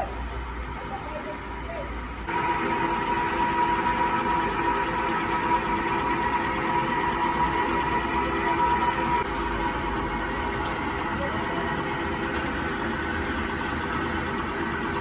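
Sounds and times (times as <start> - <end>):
workshop machine whining: 0.0 - 15.0.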